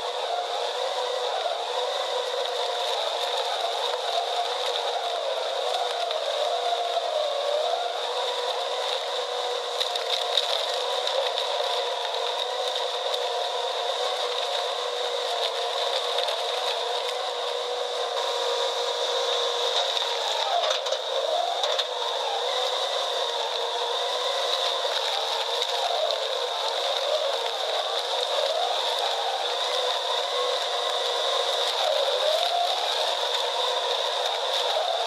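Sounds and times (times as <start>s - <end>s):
machine grinding wood: 0.0s - 35.0s.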